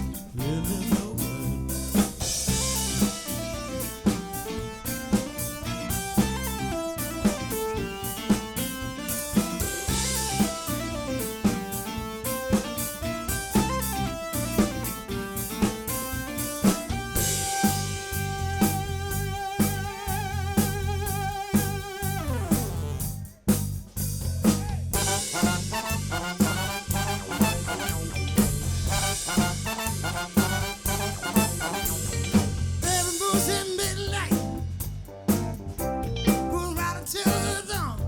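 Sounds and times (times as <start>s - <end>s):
soul band playing: 0.0s - 23.8s, 24.6s - 38.0s
drum kit beat: 0.0s - 38.0s.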